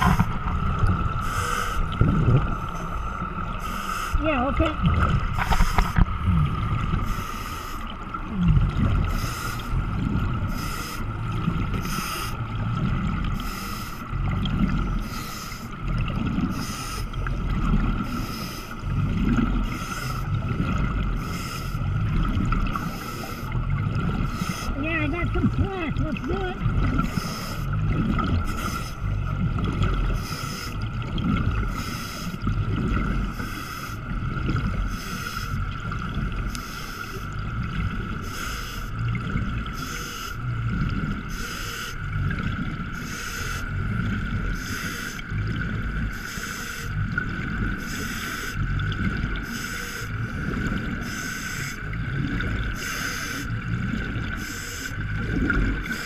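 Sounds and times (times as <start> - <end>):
low rumble of moving water: 0.0 - 56.0
steady underwater hum: 0.0 - 56.0.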